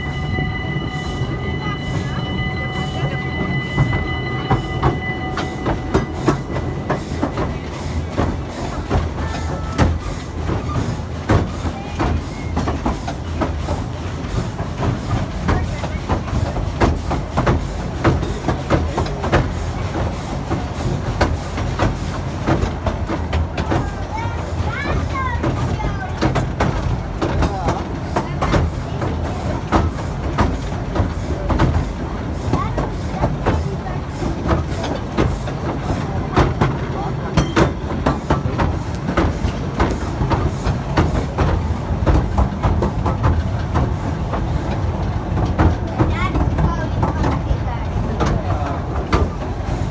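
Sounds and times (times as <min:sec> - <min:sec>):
train rumbling on track: 0:00.0 - 0:49.9
wheels clicking over rail joints: 0:03.4 - 0:49.9.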